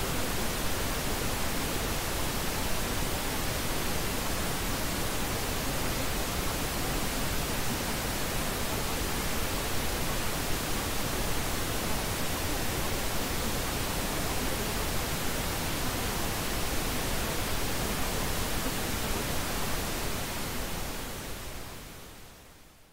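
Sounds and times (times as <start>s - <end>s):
steady broadband hiss: 0.0s - 22.9s.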